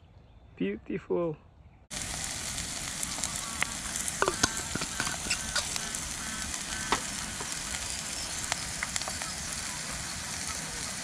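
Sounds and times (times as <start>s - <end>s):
stir fry sizzling in a pan: 1.9s - 11.0s.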